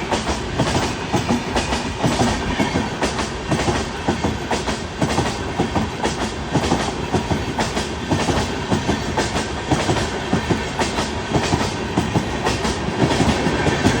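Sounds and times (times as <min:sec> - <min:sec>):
train rumbling at high speed: 0:00.0 - 0:14.0.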